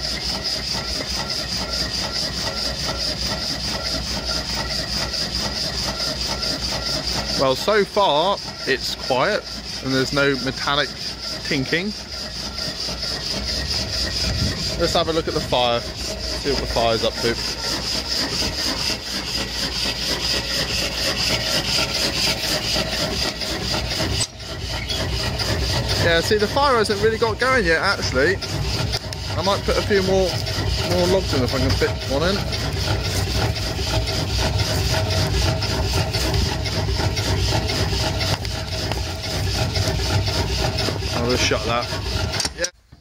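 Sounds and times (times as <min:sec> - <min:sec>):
log scraping across grate: 0:00.0 - 0:42.8
stirling engine running: 0:00.0 - 0:42.8
rhythmic rasping squeak: 0:00.0 - 0:43.0.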